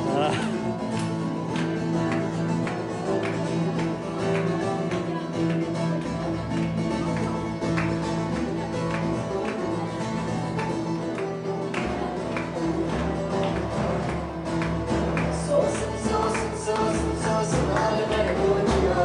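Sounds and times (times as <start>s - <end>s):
acoustic guitar: 0.0s - 19.0s
long-necked lute playing folk music: 0.0s - 19.0s.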